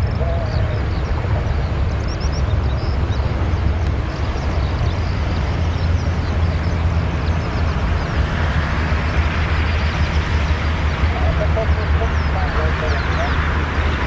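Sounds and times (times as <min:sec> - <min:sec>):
jet airliner engines running: 0:00.0 - 0:14.0.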